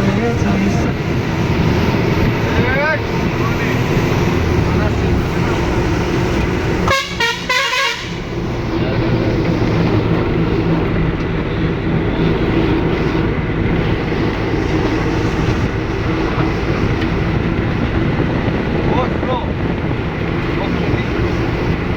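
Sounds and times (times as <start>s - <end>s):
moving vehicle running noise: 0.0s - 21.9s.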